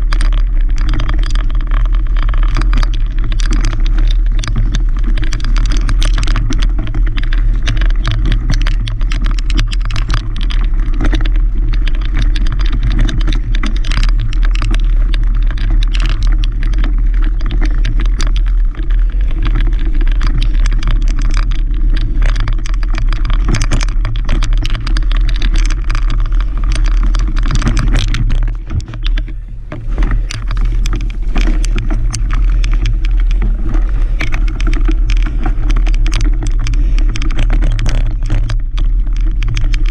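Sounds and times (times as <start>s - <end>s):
bike rattling and clicking: 0.0s - 39.9s
bike tyre noise: 0.0s - 39.9s
wind rumble on microphone: 0.0s - 39.9s.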